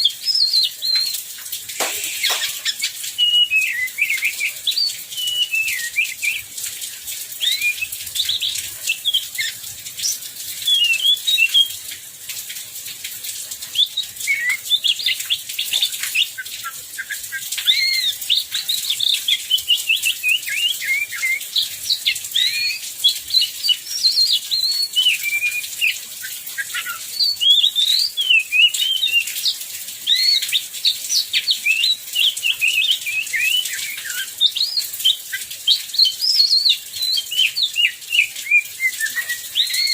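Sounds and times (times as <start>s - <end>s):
birds singing whistled notes: 0.0s - 6.6s, 7.3s - 11.9s, 13.7s - 39.9s
heavy rain: 0.0s - 39.9s.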